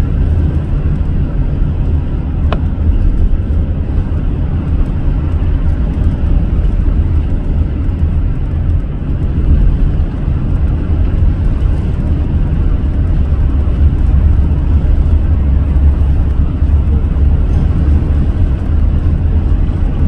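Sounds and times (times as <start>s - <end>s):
car driving at road speed: 0.0s - 20.0s.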